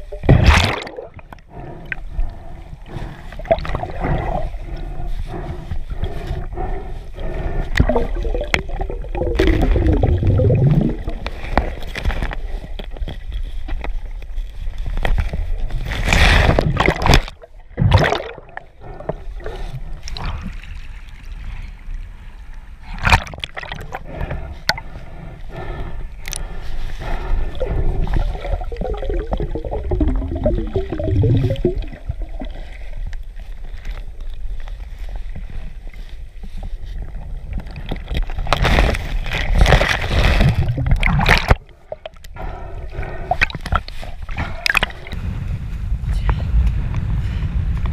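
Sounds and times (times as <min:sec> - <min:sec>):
water churning and gurgling: 0:00.0 - 0:45.2.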